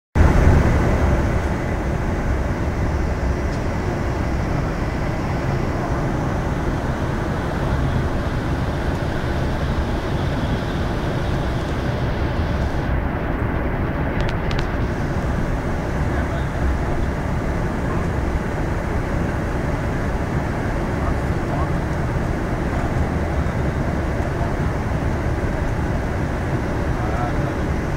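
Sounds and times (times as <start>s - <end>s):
bus engine and road drone: 0.2s - 27.9s.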